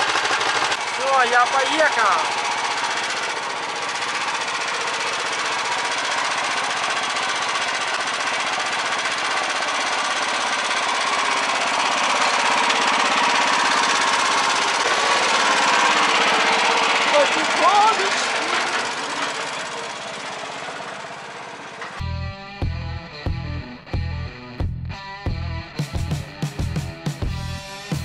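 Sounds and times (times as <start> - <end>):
diesel tractor engine knocking: 0.0 - 23.5.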